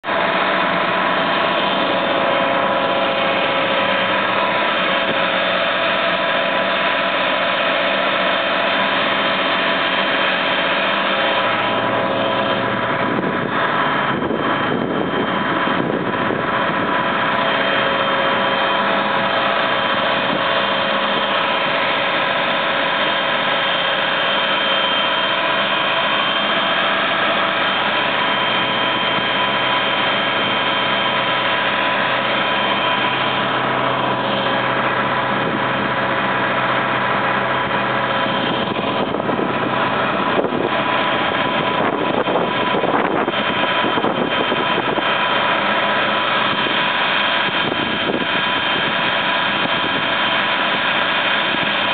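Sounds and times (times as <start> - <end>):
ferry engine droning: 0.0 - 51.9.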